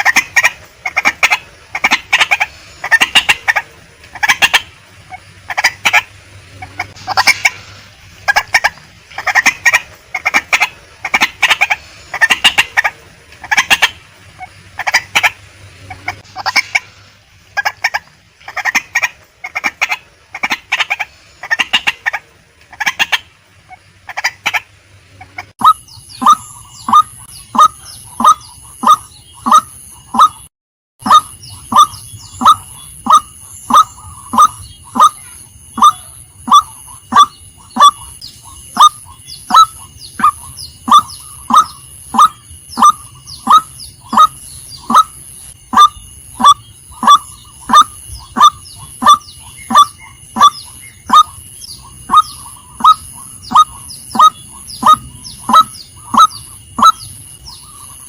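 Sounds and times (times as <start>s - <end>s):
waterhen clucking calls: 0.0s - 58.0s.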